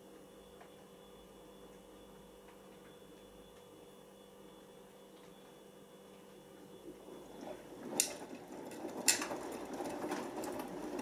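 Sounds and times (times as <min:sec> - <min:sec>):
faint washing machine hum: 0:00.0 - 0:11.0.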